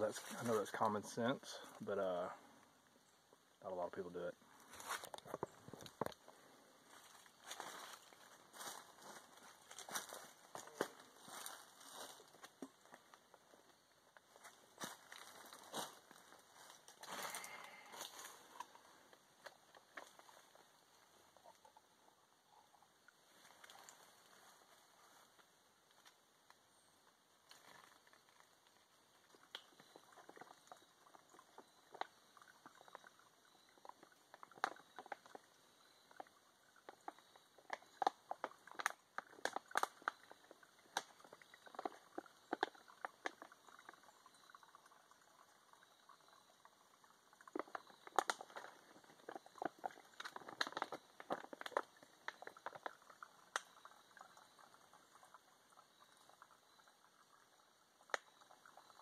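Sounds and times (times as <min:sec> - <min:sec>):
sharp ticks and splashes: 0:00.0 - 0:59.0
water trickling into bottle: 0:04.4 - 0:59.0.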